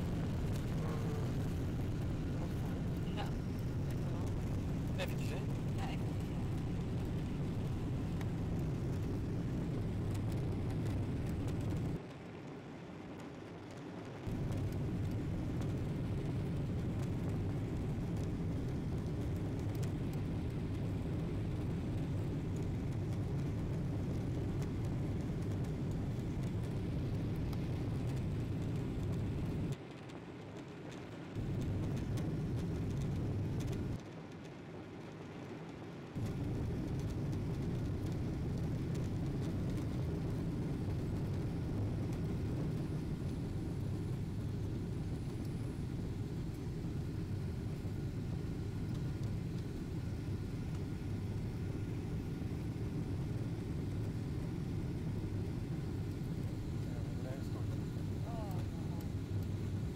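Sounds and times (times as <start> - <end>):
airplane cabin engine noise: 0.0 - 59.9.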